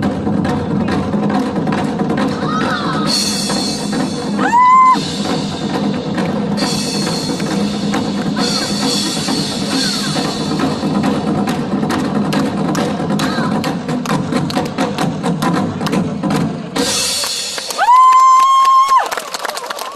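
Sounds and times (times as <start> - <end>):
percussion ensemble drumming: 0.0 - 19.9.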